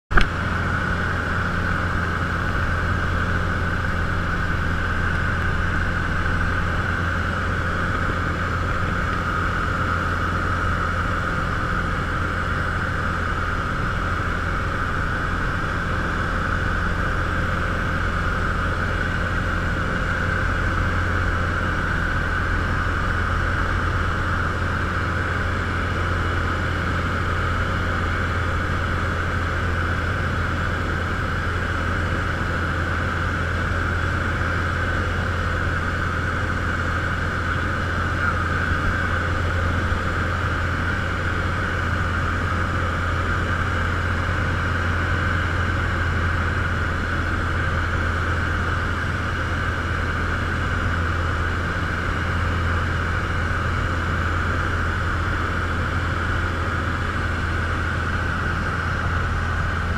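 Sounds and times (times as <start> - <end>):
light aircraft engine droning: 0.1 - 59.9.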